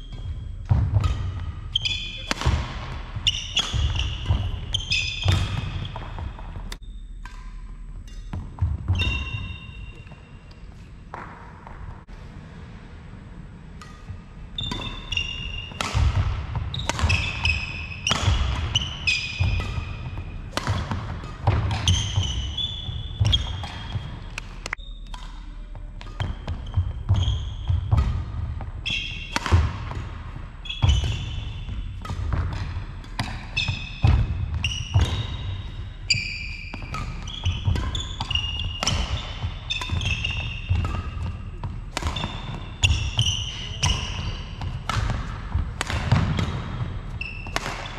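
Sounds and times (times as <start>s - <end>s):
sports shoes squeaking: 0.0s - 11.8s, 13.8s - 47.9s
racket striking shuttlecock: 0.1s - 11.8s, 13.7s - 47.9s.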